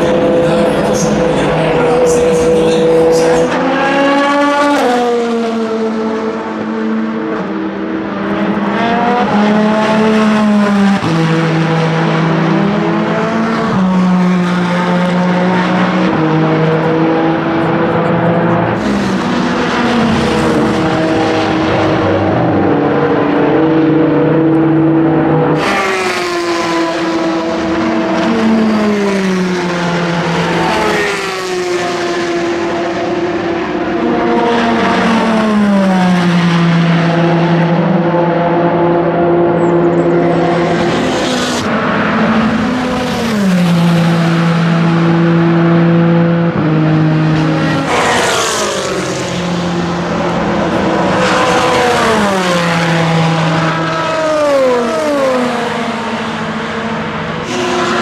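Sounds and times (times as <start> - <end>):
race car engine passing by: 0.0 - 58.0.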